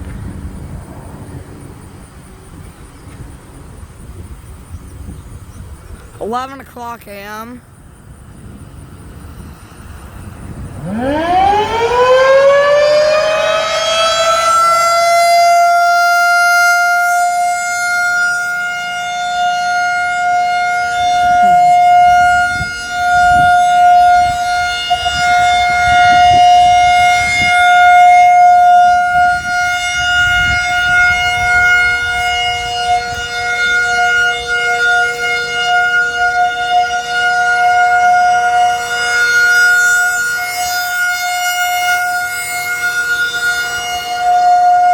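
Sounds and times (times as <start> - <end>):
rotating warning siren: 0.0 - 44.9.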